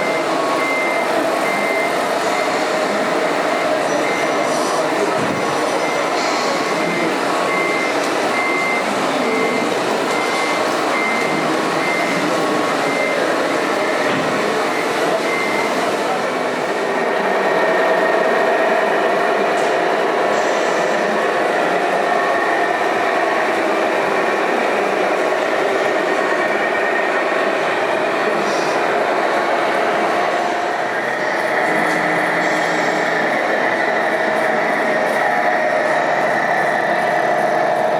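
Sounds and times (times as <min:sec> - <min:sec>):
hall chatter: 0:00.0 - 0:37.9
loud steady hum: 0:00.0 - 0:37.9
model trucks running: 0:00.0 - 0:37.9
reversing beeper: 0:00.0 - 0:37.9.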